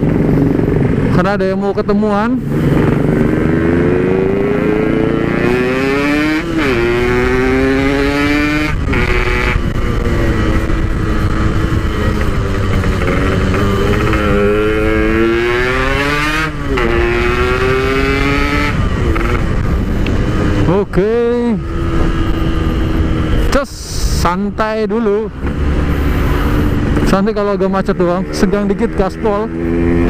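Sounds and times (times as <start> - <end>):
two-stroke engine accelerating hard: 0.0 - 1.4, 2.0 - 30.0.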